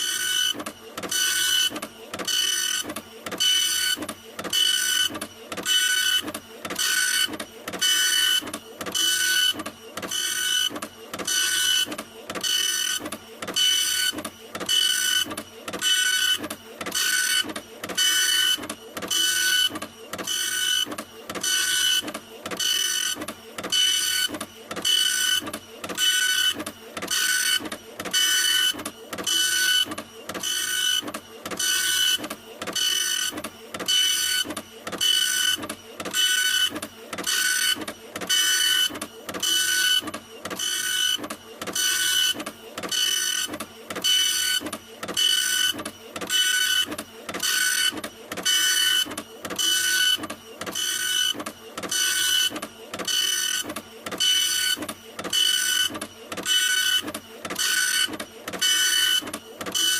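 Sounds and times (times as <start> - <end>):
printer printing: 0.0 - 59.9.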